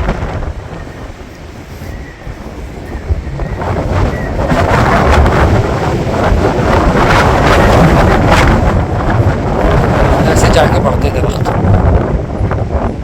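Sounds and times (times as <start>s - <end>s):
strong wind gusting: 0.0s - 13.0s
wind buffeting microphone: 0.0s - 13.0s.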